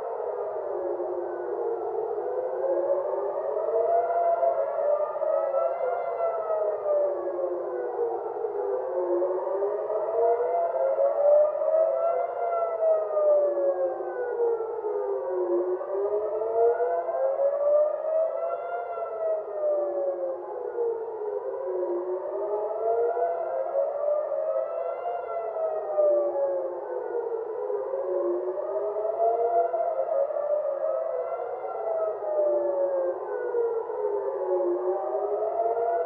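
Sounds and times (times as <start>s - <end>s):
air-raid sirens wailing: 0.0s - 36.0s.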